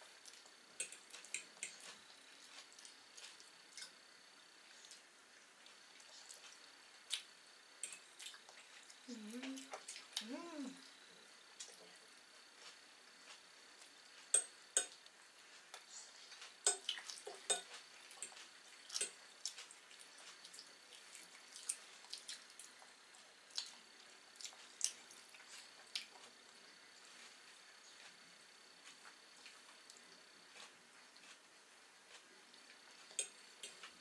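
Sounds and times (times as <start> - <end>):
toddler chewing bread: 0.0 - 4.0, 4.6 - 10.9, 15.0 - 34.0.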